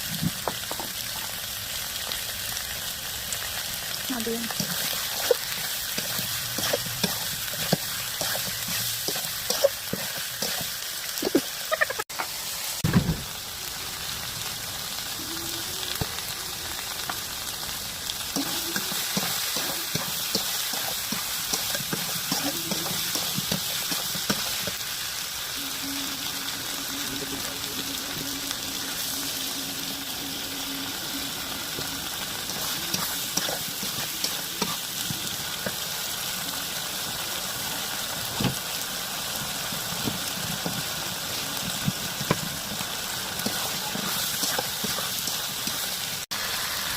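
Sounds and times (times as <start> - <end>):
chicken sizzling in hot oil: 0.0 - 46.9.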